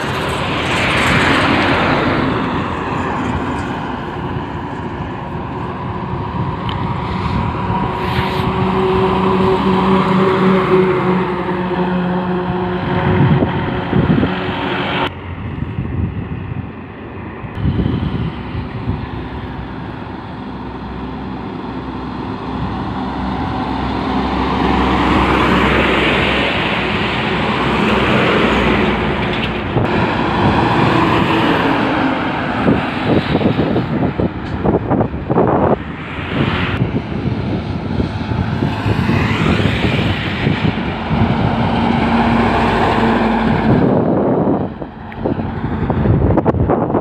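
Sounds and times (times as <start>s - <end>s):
diesel trucks passing: 0.0s - 47.0s.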